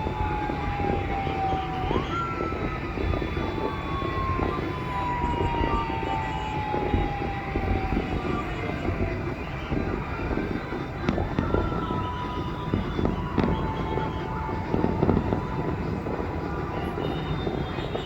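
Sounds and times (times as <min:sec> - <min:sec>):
fireworks bangs: 0:00.0 - 0:18.0
fireworks crackling rumble: 0:00.0 - 0:18.0.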